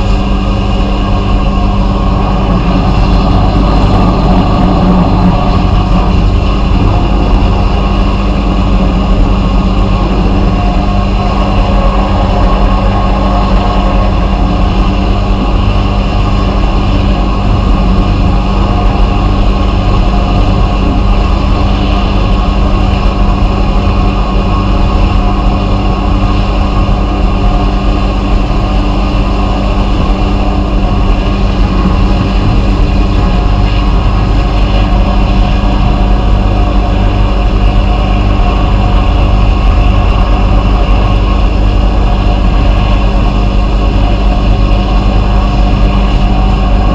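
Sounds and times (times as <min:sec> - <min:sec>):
machine humming and hissing: 0:00.0 - 0:46.9.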